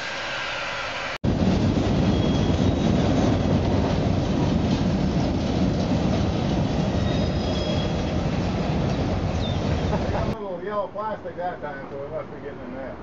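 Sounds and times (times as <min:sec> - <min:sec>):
railroad cars rumbling on track: 0:00.0 - 0:13.0.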